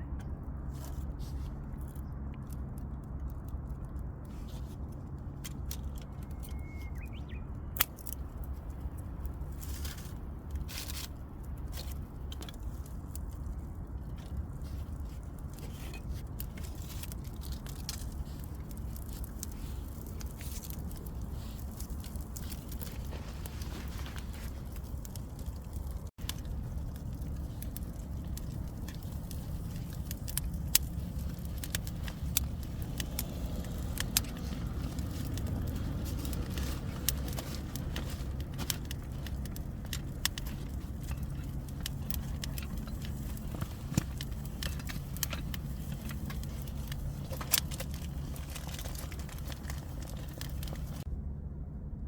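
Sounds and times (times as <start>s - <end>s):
low steady rumble: 0.0s - 52.0s
campfire crackling and popping: 7.7s - 51.1s.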